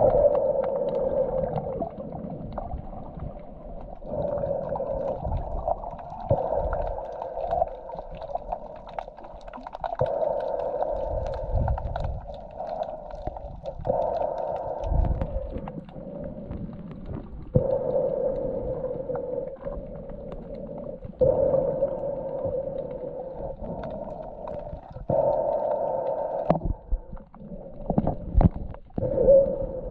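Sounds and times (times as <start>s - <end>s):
muffled underwater rushing: 0.0s - 29.9s
faint clicks: 0.1s - 29.6s.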